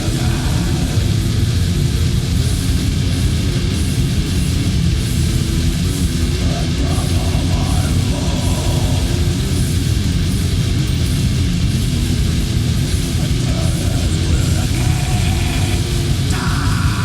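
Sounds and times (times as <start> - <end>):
distorted guitars: 0.0 - 17.0
fast drumming: 0.0 - 17.0.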